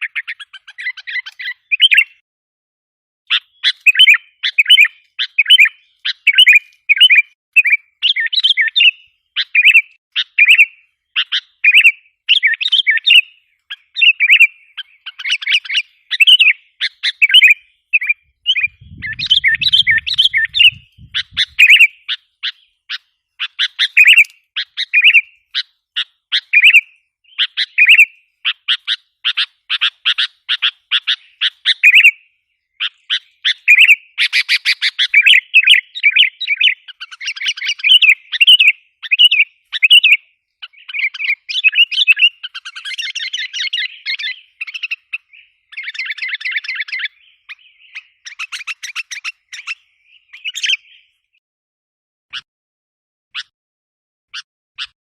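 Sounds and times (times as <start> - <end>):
bulbul chattering call: 0.0 - 2.2, 3.3 - 51.1.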